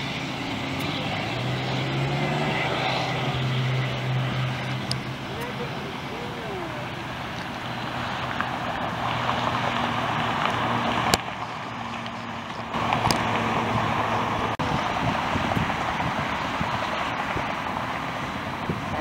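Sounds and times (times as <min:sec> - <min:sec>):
distant jet engines rushing: 0:00.0 - 0:19.0.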